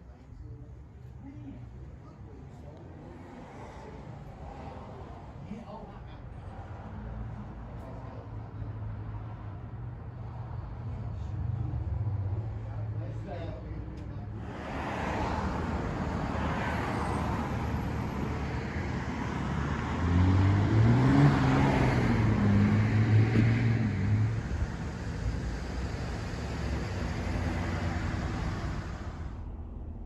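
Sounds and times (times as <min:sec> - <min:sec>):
road traffic noise: 0:00.0 - 0:30.0
vehicle passing by: 0:03.0 - 0:30.0.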